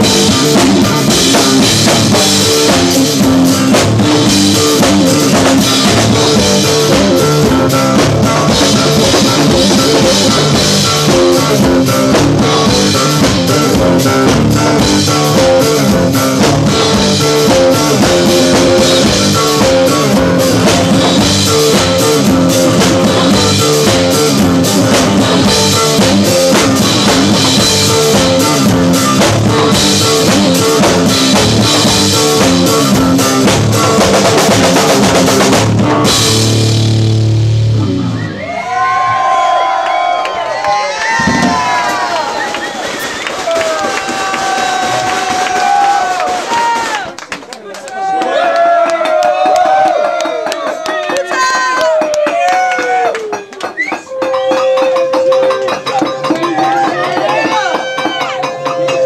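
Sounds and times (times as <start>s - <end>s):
guitar: 0.0s - 39.2s, 50.7s - 59.0s
rock band playing: 0.0s - 47.2s, 50.8s - 59.0s.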